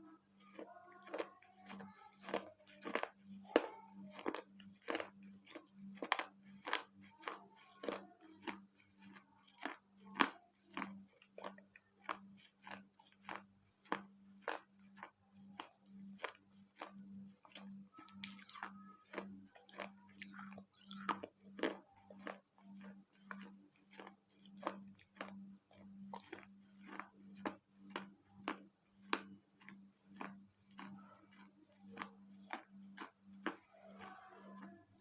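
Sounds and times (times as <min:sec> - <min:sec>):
crunchy chewing of clay: 0:00.0 - 0:35.0.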